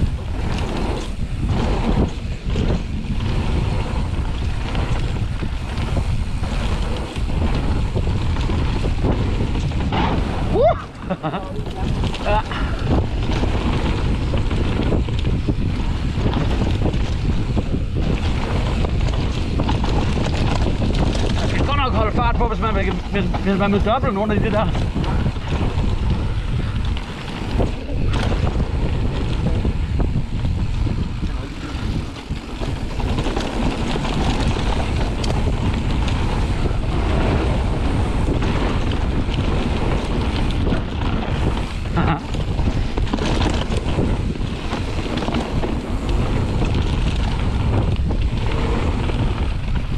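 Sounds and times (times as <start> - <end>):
bike rattling: 0.0 - 49.9
tyres rumbling on gravel trail: 0.0 - 49.9
wind buffeting microphone: 0.0 - 49.9.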